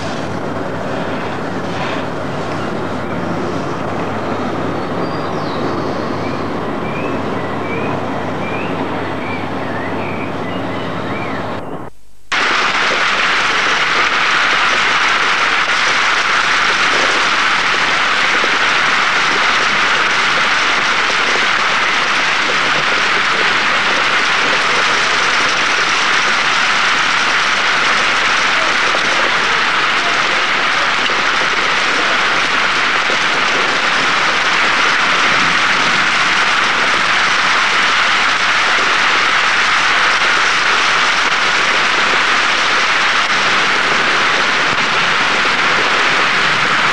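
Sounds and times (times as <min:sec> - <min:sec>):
rain falling steadily: 0:00.0 - 0:06.9, 0:11.8 - 0:46.9.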